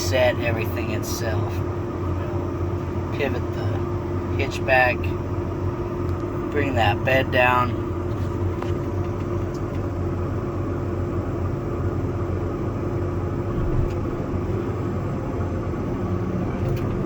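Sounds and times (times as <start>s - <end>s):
hydraulics running: 0.0s - 17.0s
steady hum: 0.0s - 17.0s
tractor engine droning: 0.0s - 17.0s.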